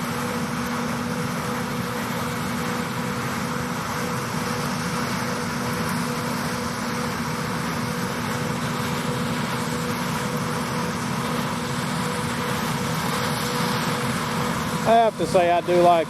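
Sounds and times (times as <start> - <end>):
engine and machinery drone: 0.0 - 16.0.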